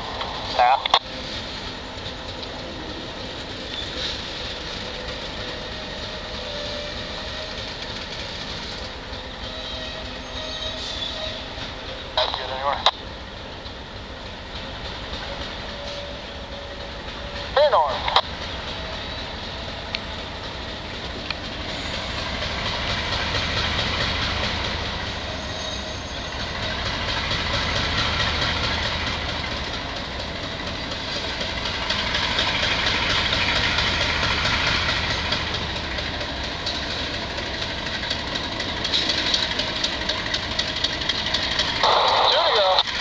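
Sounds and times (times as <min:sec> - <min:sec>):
diesel locomotive rumbling: 0:00.0 - 0:43.0.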